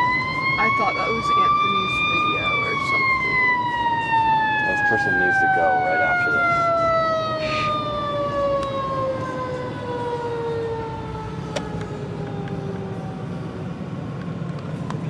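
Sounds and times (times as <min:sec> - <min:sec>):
engine rumble: 0:00.0 - 0:15.0
fire engine siren winding down: 0:00.0 - 0:15.0
traffic: 0:00.0 - 0:15.0.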